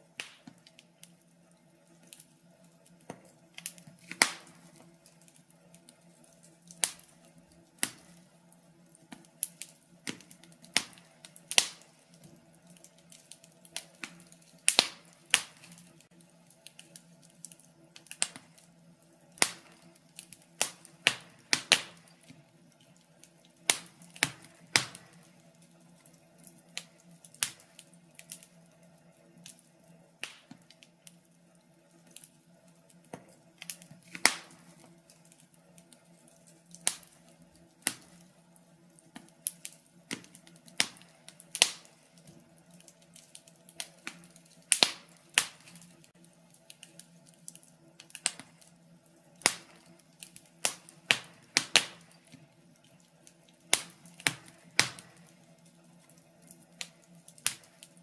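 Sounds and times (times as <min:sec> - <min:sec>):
faint steady low hum: 0:00.0 - 0:58.0
wood fire crackling: 0:00.0 - 0:58.0.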